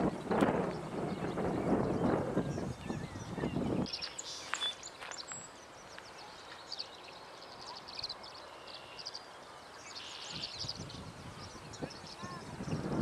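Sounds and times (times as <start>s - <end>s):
swallows chirping: 0.0s - 13.0s.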